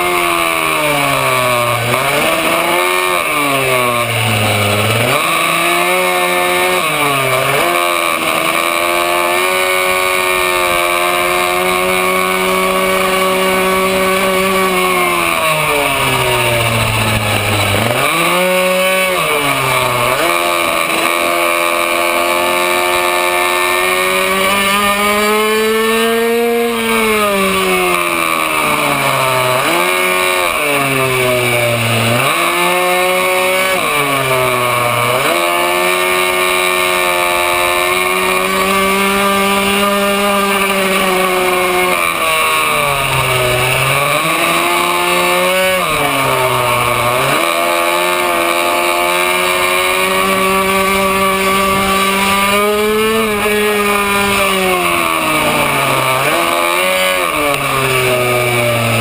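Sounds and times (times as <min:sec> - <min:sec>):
minibike two-stroke engine revving: 0:00.0 - 0:59.0.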